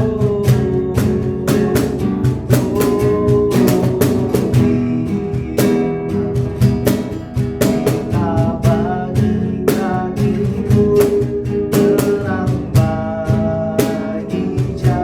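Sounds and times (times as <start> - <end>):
steady beat: 0.0 - 15.0
strummed guitar: 0.0 - 15.0.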